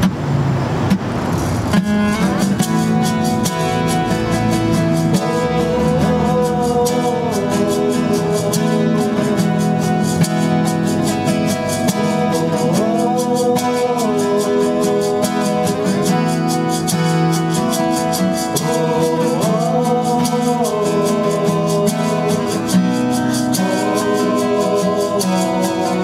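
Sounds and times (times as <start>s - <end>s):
acoustic guitars strummed and picked: 0.0s - 26.0s
man singing: 3.1s - 26.0s.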